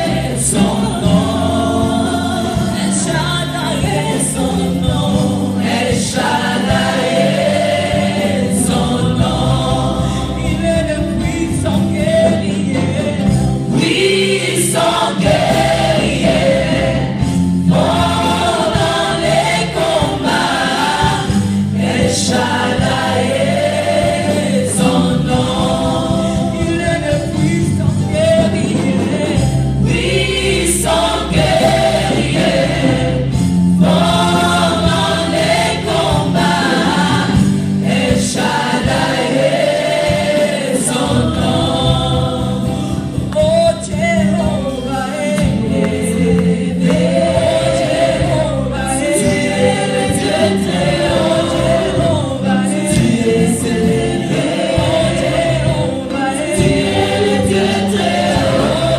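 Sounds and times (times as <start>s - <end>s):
band with low bass line: 0.0s - 58.9s
gospel choir singing: 0.0s - 58.9s.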